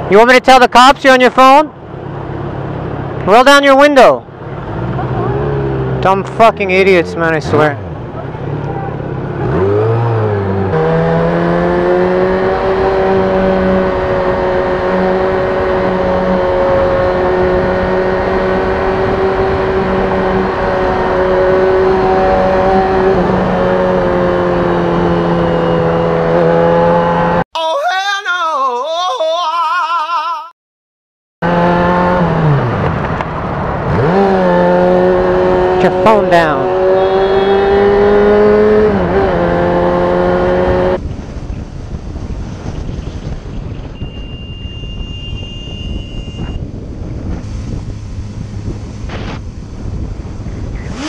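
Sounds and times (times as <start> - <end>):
motorcycle engine cruising: 1.4 - 27.4, 31.4 - 51.0.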